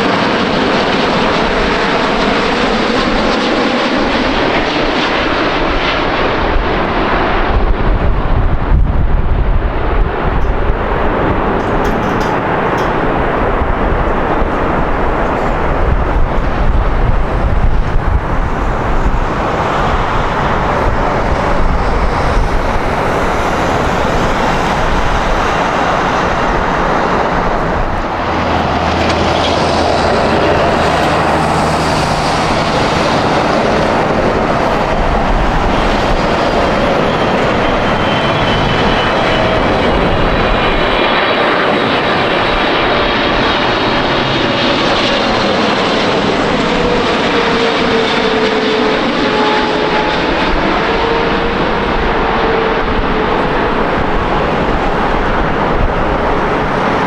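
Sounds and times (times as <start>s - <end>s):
faint high turbine whine: 0.0s - 57.0s
jet engines roaring: 0.0s - 57.0s.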